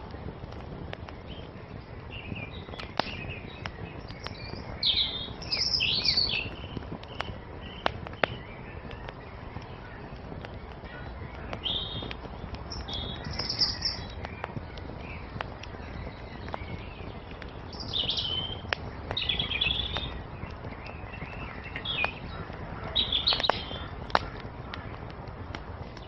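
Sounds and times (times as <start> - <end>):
small birds chirping: 0.0 - 26.0
wood fire crackling and popping: 0.0 - 26.0.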